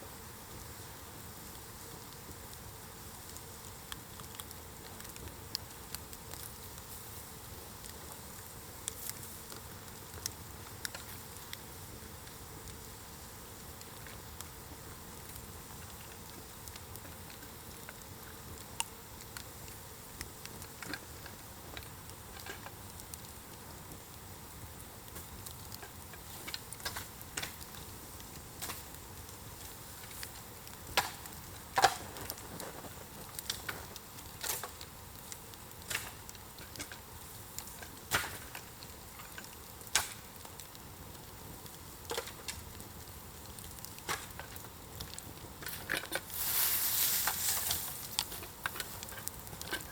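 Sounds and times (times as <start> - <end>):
fire hissing: 0.0 - 49.9
fire popping and snapping: 0.0 - 49.9.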